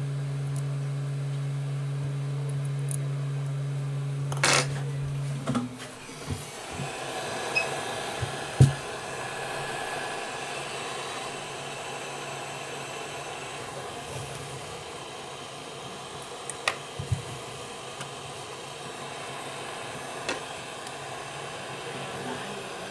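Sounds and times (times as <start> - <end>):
hot-air station hissing: 4.3 - 22.9.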